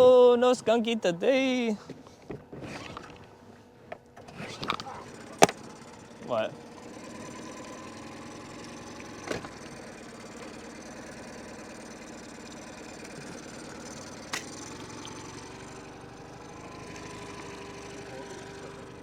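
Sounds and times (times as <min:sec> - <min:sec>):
boat motor idling: 0:00.0 - 0:19.0.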